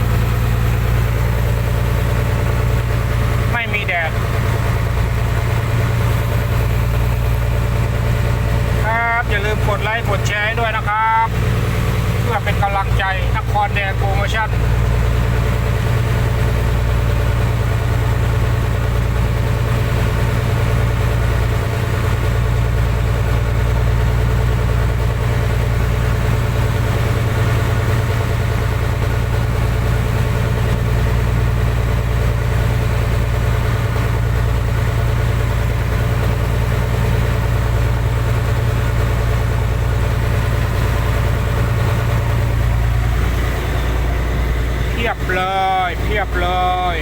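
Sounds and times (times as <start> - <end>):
boat engine humming: 0.0 - 47.0.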